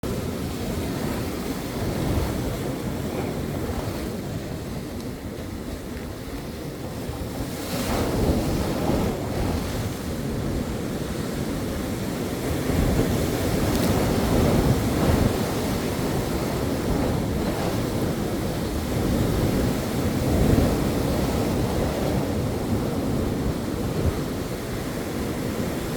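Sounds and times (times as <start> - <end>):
ocean waves washing: 0.0 - 25.9
wind on microphone: 0.0 - 25.9.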